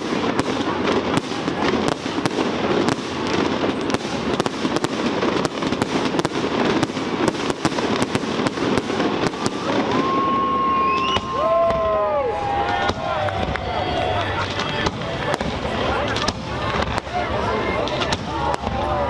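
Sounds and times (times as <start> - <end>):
fireworks bangs and cracks: 0.0 - 19.0
rumbling crackle of fireworks: 0.0 - 19.0.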